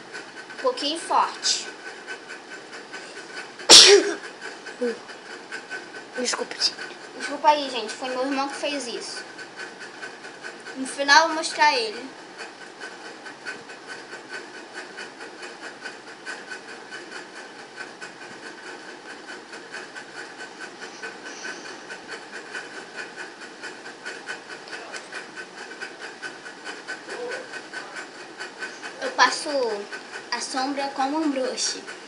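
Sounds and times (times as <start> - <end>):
fast even ticking: 0.1 - 32.0.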